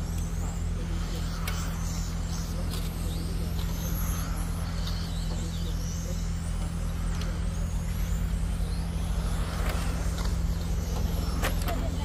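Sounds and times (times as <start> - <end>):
rc car motors whining: 0.0 - 12.0
steady low rumble: 0.0 - 12.0.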